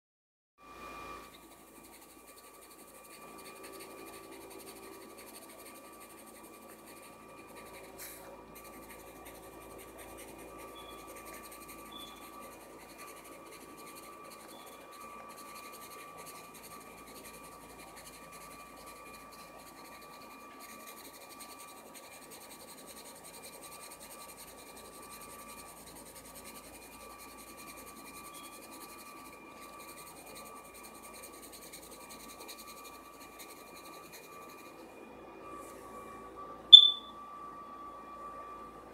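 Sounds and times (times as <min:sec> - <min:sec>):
faint high hum: 0:00.7 - 0:38.9
pencil scratching on paper: 0:01.3 - 0:34.8.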